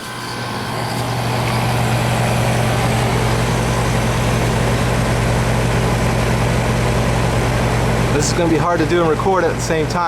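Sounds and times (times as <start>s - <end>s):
heat pump compressor humming: 0.0s - 10.0s.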